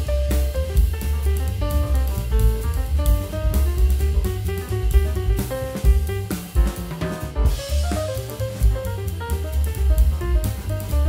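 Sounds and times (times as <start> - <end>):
music with drum-kit beat: 0.0 - 11.0.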